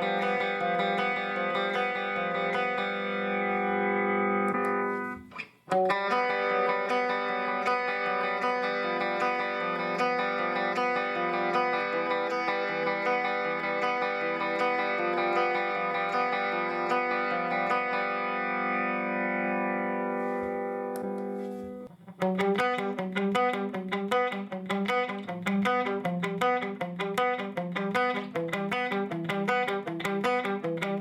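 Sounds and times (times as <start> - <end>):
electric guitar through amplifier: 0.0 - 31.0.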